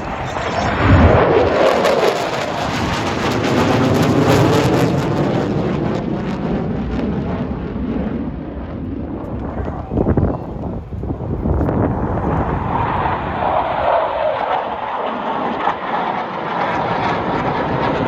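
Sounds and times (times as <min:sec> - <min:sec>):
jet engines flying past: 0:00.0 - 0:18.0.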